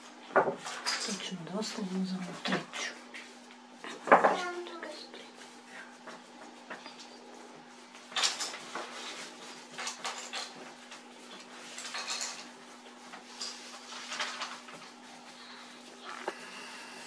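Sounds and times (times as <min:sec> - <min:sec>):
faint steady hum: 0:00.0 - 0:17.0
rustling and clattering: 0:00.2 - 0:16.4.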